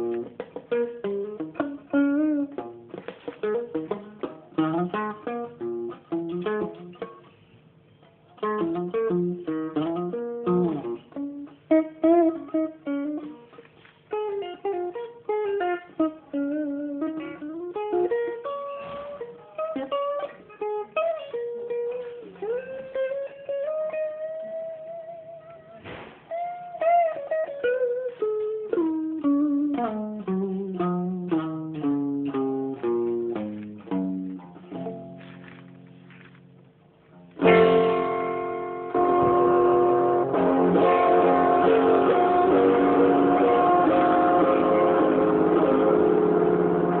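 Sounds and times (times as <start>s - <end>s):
plucked string instrument: 0.0s - 7.5s, 8.1s - 47.0s.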